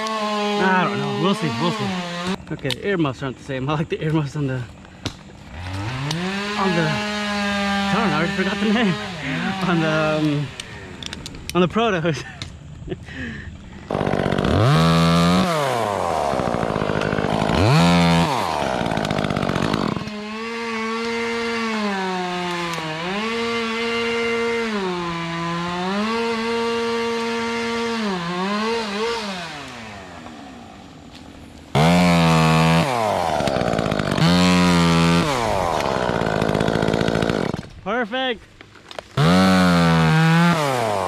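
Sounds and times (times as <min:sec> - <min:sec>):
chainsaw revving and cutting wood: 0:00.0 - 0:02.8, 0:04.1 - 0:11.5, 0:12.2 - 0:37.8, 0:38.9 - 0:41.0.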